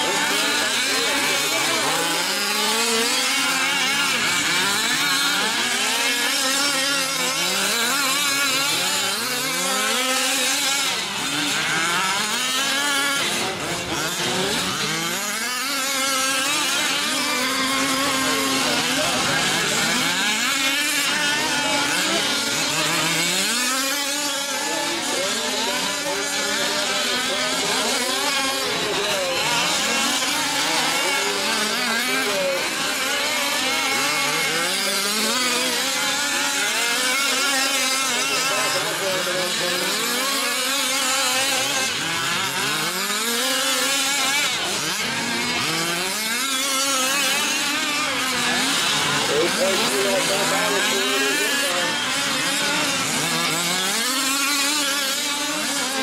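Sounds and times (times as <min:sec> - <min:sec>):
small two-stroke engines racing: 0:00.0 - 0:56.0.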